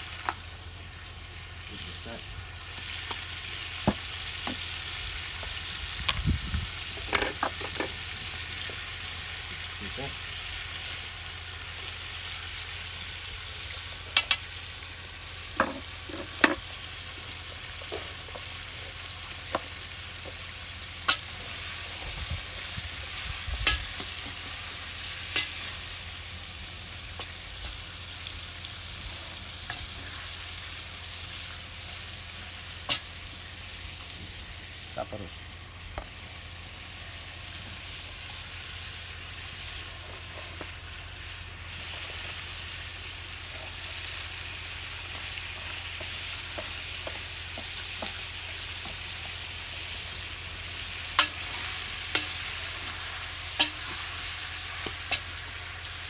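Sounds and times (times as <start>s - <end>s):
meat sizzling: 0.0s - 56.0s.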